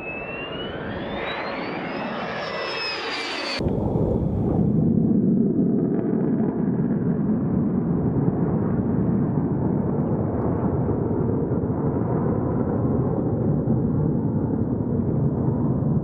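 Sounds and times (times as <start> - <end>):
distant jet engine rumble: 0.0 - 16.0.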